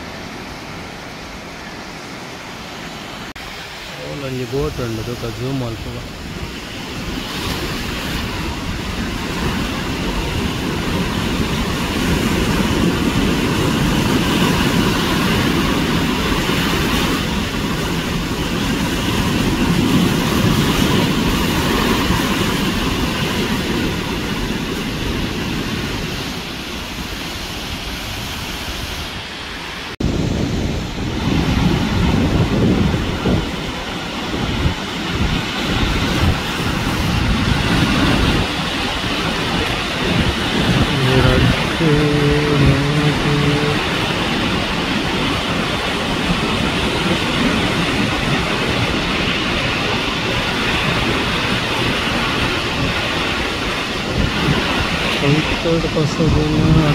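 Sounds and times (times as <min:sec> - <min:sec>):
sea surf washing on shore: 0:00.0 - 0:56.9
wind buffeting microphone: 0:00.0 - 0:56.9.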